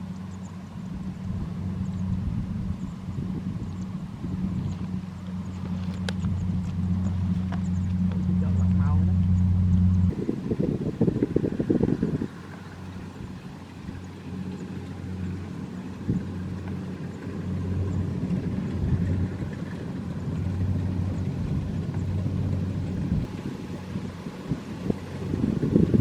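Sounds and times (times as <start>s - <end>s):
combine harvester diesel engine: 0.0s - 26.0s.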